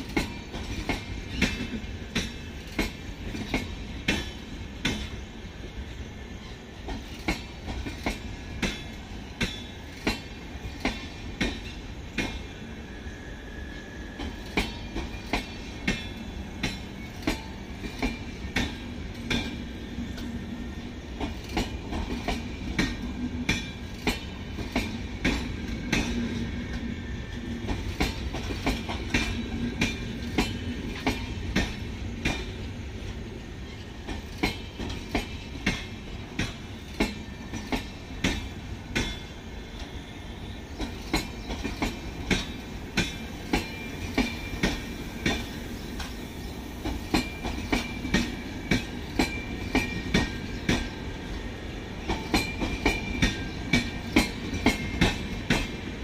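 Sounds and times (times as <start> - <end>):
train wheels clicking over rail joints: 0.0 - 12.6, 14.0 - 56.0
continuous train rumble: 0.0 - 56.0.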